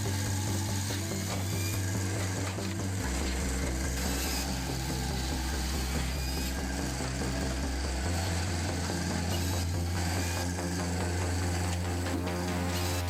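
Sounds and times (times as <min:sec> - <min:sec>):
firewood processor engine humming: 0:00.0 - 0:13.0.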